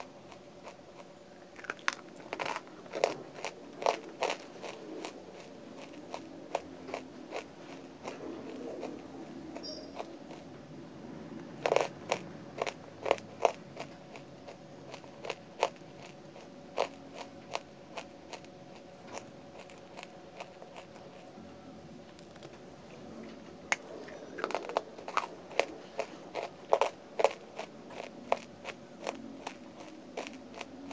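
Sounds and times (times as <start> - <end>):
clay crunching between teeth: 0.0 - 10.5, 11.4 - 21.3, 23.7 - 30.9.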